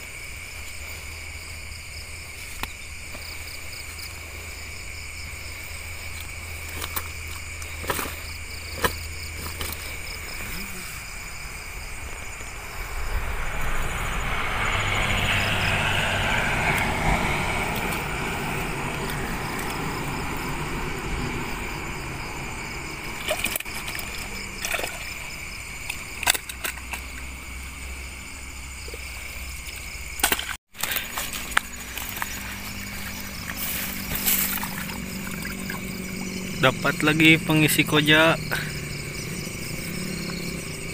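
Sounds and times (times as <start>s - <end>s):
insects chirping: 0.0s - 40.9s
water sloshing and trickling: 0.0s - 40.9s.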